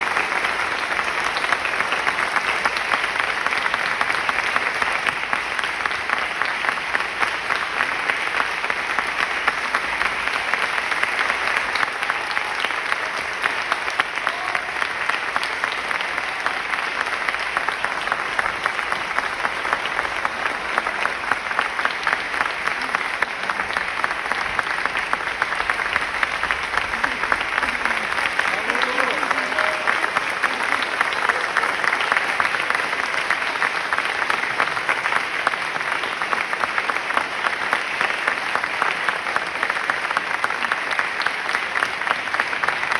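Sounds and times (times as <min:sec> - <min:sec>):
audience applauding: 0:00.0 - 0:42.9.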